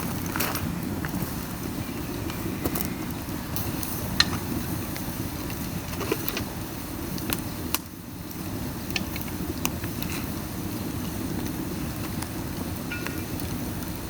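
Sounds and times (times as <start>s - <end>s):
fire crackling and popping: 0.0s - 14.0s
roar of flames: 0.0s - 14.0s.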